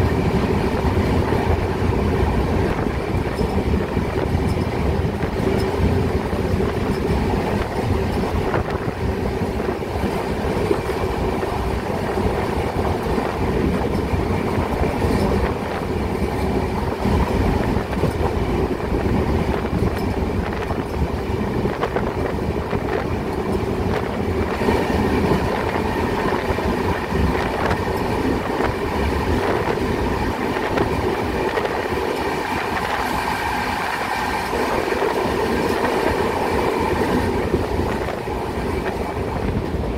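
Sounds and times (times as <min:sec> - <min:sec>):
passing train alongside: 0:00.0 - 0:39.9
rail joint clicks: 0:00.0 - 0:39.9
train wheels rumbling on rails: 0:00.0 - 0:39.9.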